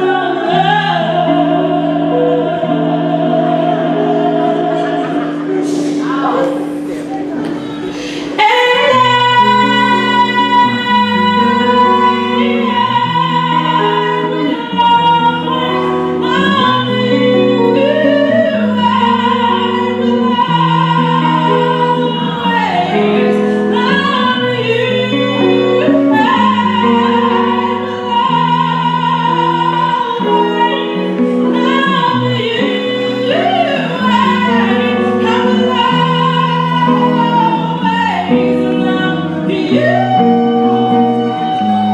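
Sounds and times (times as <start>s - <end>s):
woman singing with vibrato: 0.0s - 41.9s.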